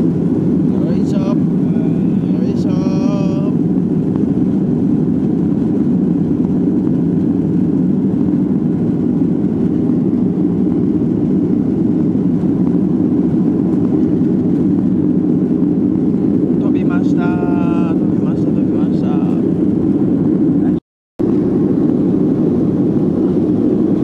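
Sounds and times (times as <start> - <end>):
jet engine cabin roar: 0.0 - 24.0.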